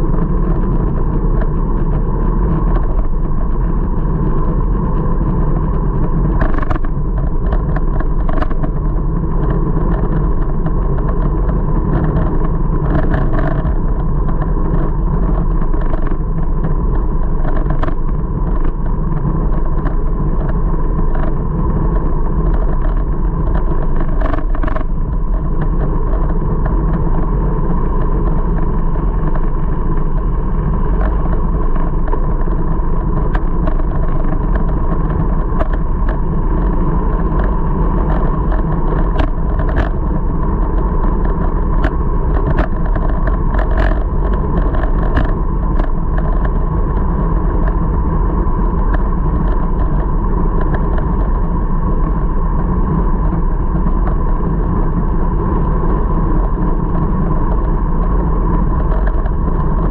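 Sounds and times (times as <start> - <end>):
bicycle road noise: 0.0 - 59.9.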